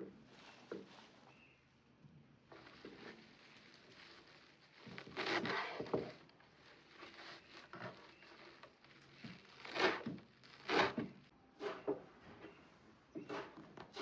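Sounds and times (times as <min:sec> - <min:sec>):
rustling and scraping of objects: 0:00.0 - 0:01.7, 0:02.4 - 0:14.0.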